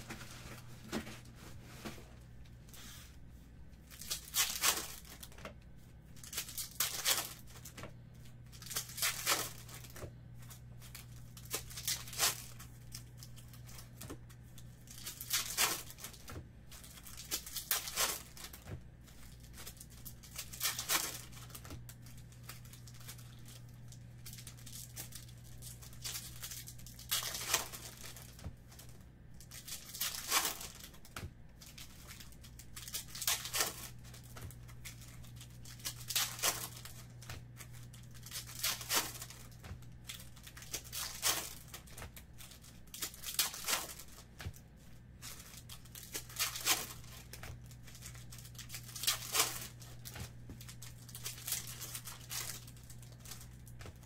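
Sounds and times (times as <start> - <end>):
steady low hum: 0.0 - 54.0
foil packs tearing and crinkling: 3.9 - 5.4, 6.2 - 7.8, 8.5 - 54.0.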